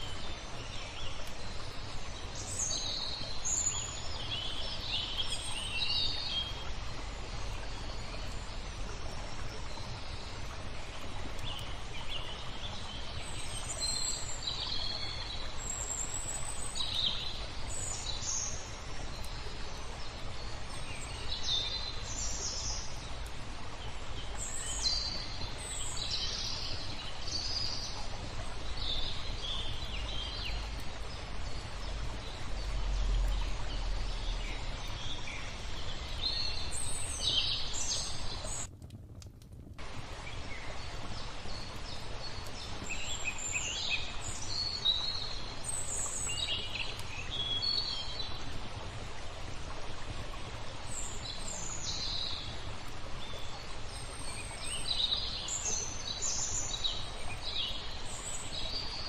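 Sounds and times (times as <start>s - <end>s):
songbirds chirping: 0.0s - 38.7s, 39.8s - 59.0s.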